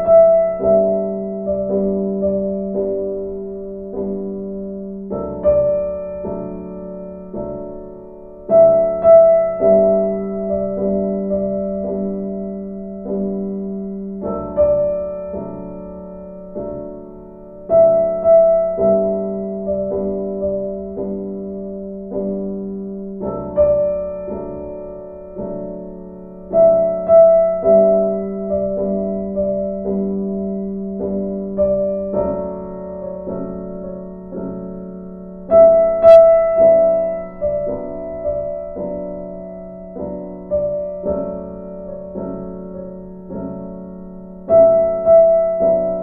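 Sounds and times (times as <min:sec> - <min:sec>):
slow gentle piano music: 0:00.0 - 0:46.0.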